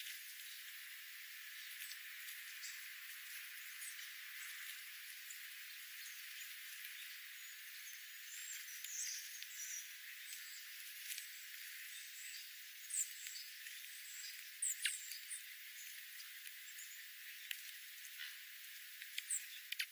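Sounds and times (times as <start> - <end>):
small birds chirping: 0.0 - 19.9
steady hiss: 0.0 - 19.9.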